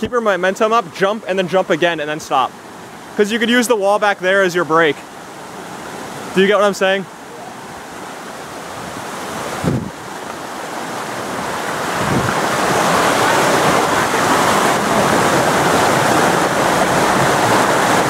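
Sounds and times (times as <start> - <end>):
stream rapids rushing: 0.0 - 18.0.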